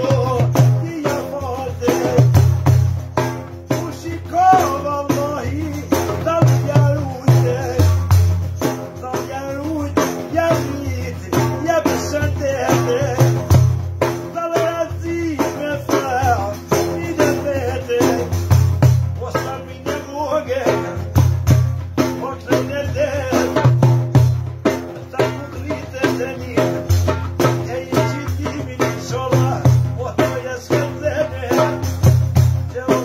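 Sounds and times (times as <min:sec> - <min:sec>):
frame drum with jingles: 0:00.0 - 0:33.0
man singing: 0:00.0 - 0:33.0.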